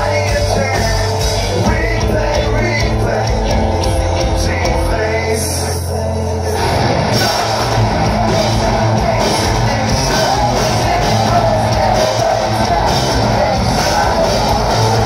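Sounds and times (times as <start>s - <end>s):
live rock band playing loud: 0.0s - 15.0s.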